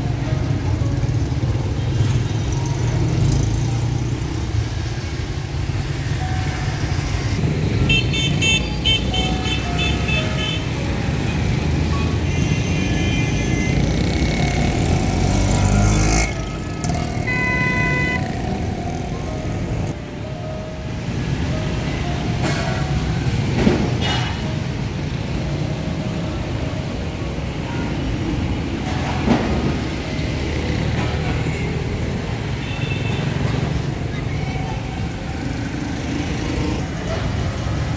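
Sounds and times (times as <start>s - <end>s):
motorcycle engines rumbling: 0.0s - 37.9s.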